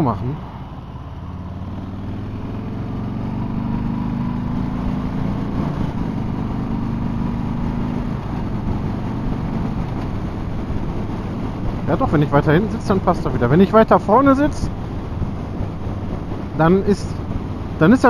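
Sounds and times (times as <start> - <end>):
motorcycle engine accelerating: 0.4 - 18.0.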